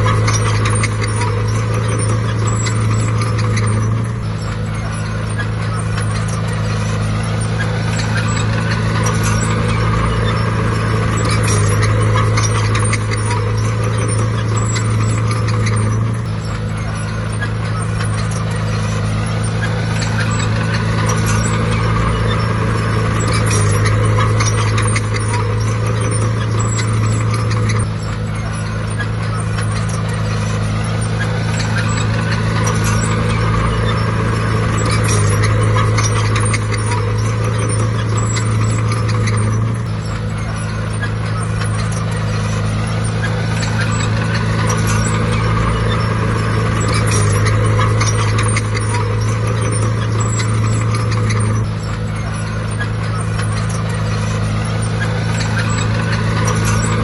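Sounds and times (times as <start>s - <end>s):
diesel machinery engine drone: 0.0s - 57.0s
metallic clatter and squeaks: 0.0s - 57.0s.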